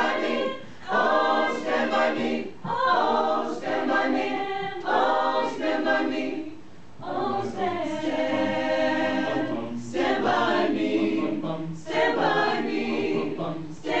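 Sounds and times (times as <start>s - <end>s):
mixed choir singing: 0.0s - 14.0s.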